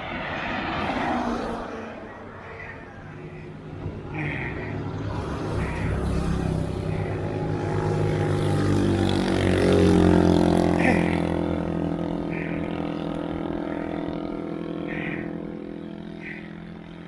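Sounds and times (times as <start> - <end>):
wind and road noise: 0.0 - 17.0
vehicle engine running: 2.1 - 17.0.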